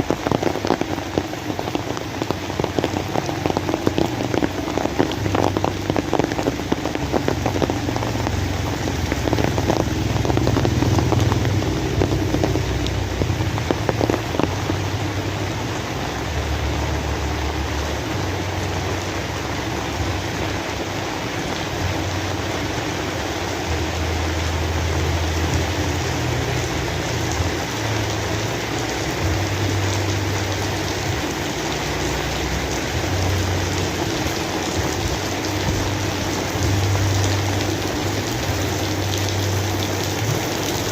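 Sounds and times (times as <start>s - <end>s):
heavy rain falling: 0.0s - 40.9s
low rumble: 0.0s - 40.9s.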